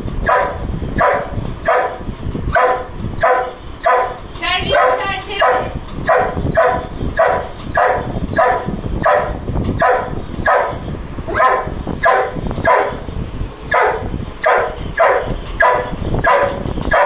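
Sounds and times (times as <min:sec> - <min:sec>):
dog barking angrily: 0:00.2 - 0:13.1, 0:13.7 - 0:17.0.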